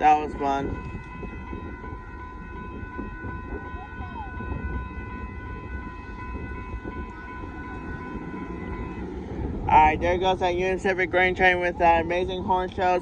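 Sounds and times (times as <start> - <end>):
crossing warning bell ringing: 0.0 - 13.0
low constant rumble: 0.0 - 13.0.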